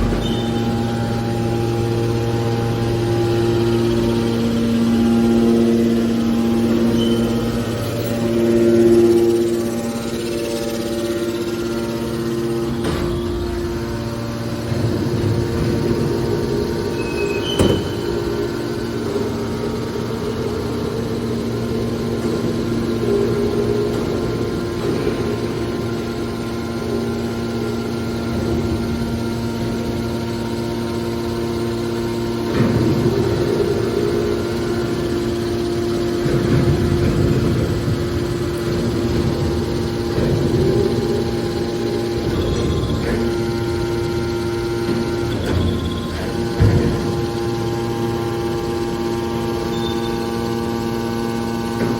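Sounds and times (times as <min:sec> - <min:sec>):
baler machine hum: 0:00.0 - 0:51.9.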